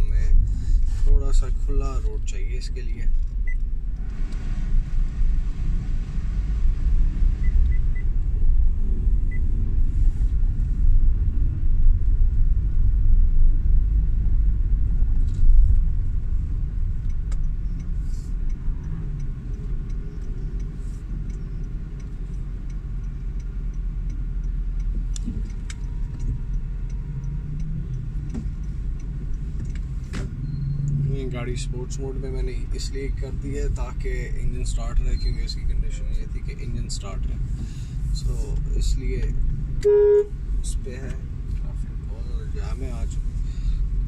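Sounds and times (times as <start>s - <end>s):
car engine rumble: 0.0s - 44.0s
road noise: 0.0s - 44.0s.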